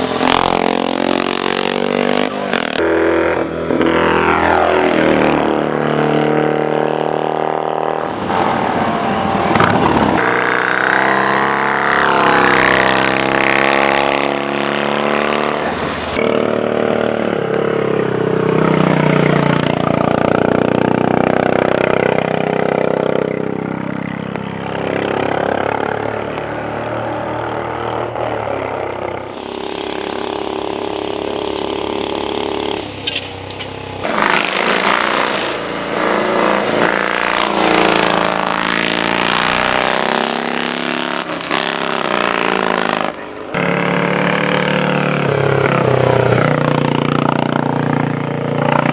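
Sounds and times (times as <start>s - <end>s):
racing motorcycle engines revving: 0.0s - 48.9s.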